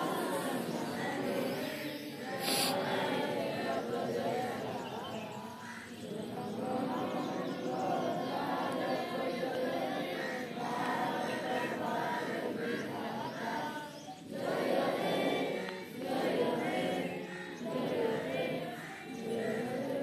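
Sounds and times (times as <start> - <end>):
large group singing in unison: 0.0 - 20.0.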